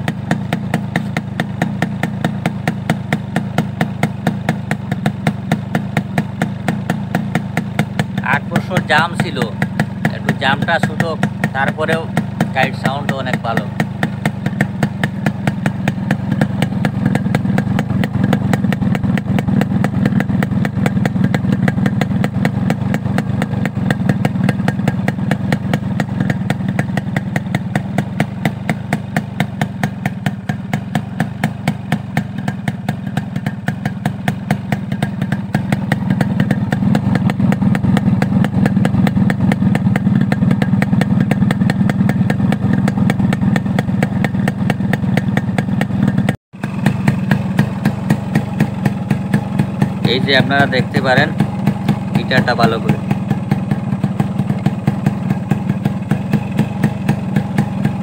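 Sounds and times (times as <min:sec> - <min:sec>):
two-stroke motorcycle engine idling: 0:00.0 - 0:58.0.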